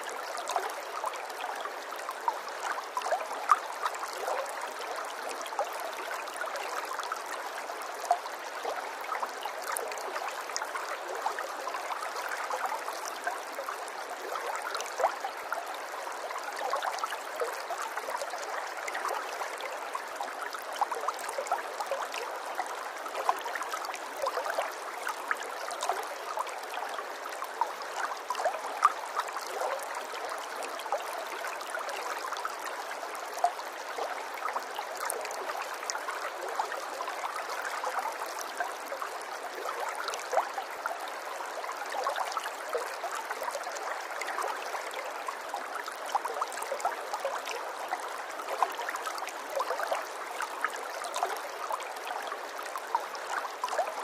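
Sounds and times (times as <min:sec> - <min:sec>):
running water babbling: 0:00.0 - 0:54.0.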